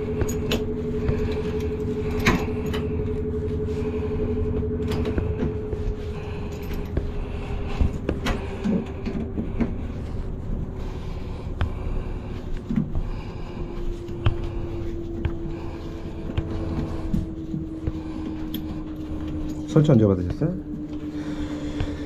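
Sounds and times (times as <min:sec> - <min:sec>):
hands rustling: 0:00.0 - 0:22.0
machine humming: 0:00.0 - 0:22.0.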